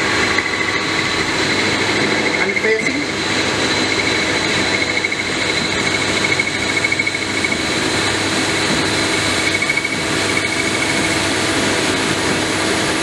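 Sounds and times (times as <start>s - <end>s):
lathe machine running with whine: 0.0s - 13.0s.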